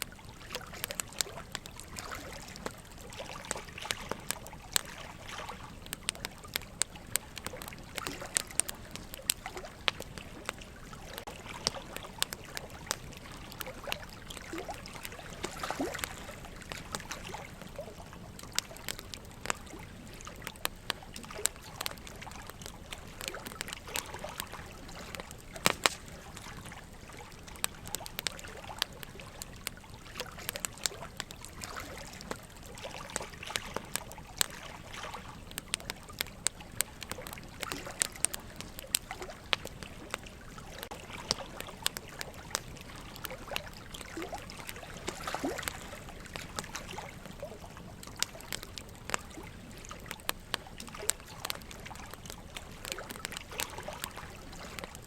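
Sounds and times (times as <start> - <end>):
trickling water: 0.0 - 55.0
wood fire crackling and popping: 0.0 - 55.0.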